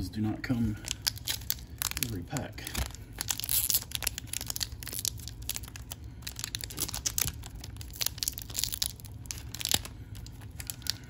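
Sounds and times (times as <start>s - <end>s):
foil wrapper crinkling and tearing: 0.7s - 11.0s.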